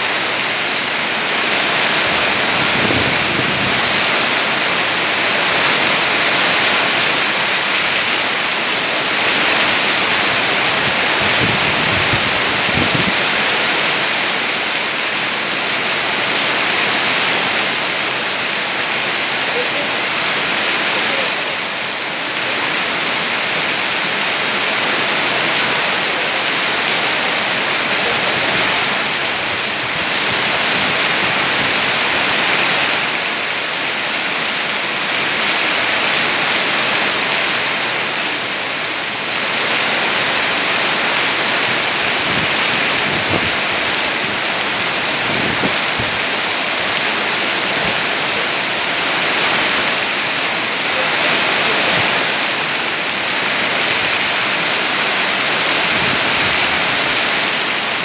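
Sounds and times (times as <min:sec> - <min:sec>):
heavy rain through foliage: 0:00.0 - 0:58.0.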